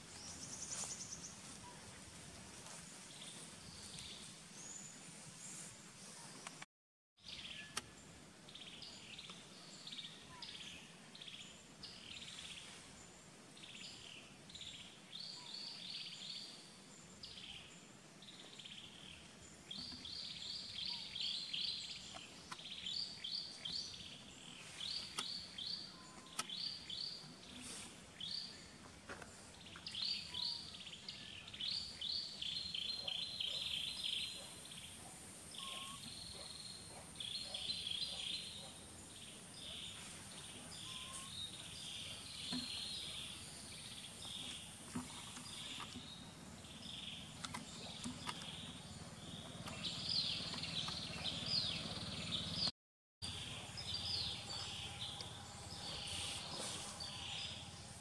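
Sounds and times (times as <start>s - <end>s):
birds chirping: 7.2s - 58.0s.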